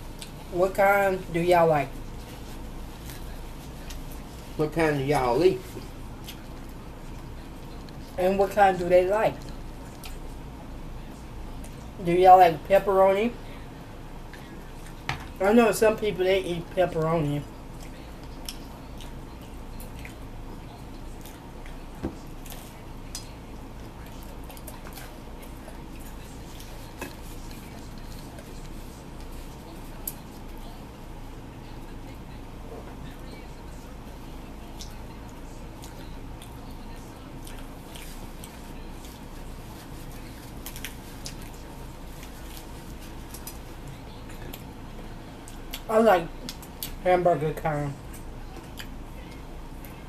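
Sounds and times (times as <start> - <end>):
people chewing food: 0.0 - 0.8, 1.9 - 4.6, 5.2 - 12.0, 13.4 - 15.4, 17.3 - 47.0, 48.0 - 50.0
steady low hum: 0.0 - 50.0.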